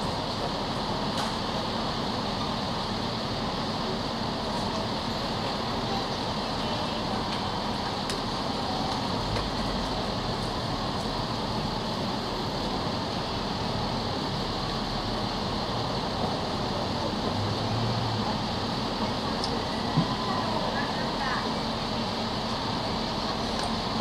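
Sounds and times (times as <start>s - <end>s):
general town noise: 0.0s - 24.0s
road traffic hum: 0.0s - 24.0s.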